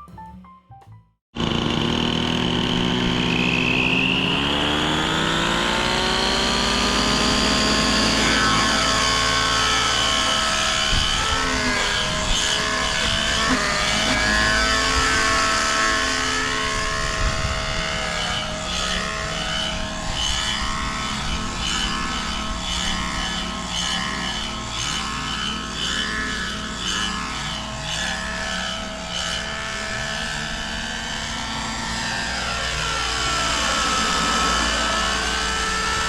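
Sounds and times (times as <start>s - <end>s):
model helicopter engine whine: 1.4s - 36.0s.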